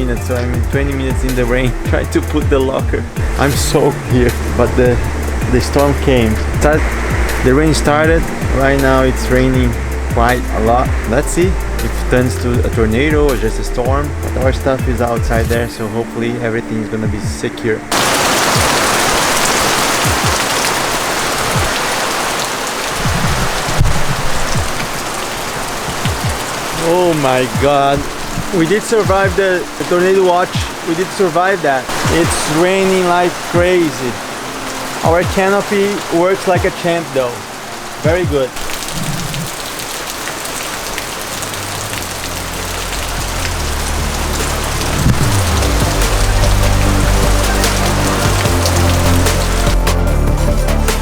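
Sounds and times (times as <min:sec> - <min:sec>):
heavy rain pouring: 0:00.0 - 0:17.3, 0:17.9 - 0:51.0
low steady music: 0:00.0 - 0:21.8, 0:23.0 - 0:38.8, 0:40.3 - 0:51.0.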